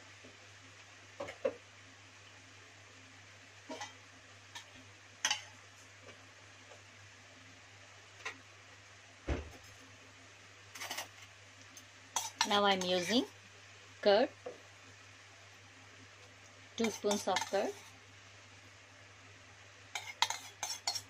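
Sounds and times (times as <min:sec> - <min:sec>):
chicken sizzling with pops: 0:00.0 - 0:21.0.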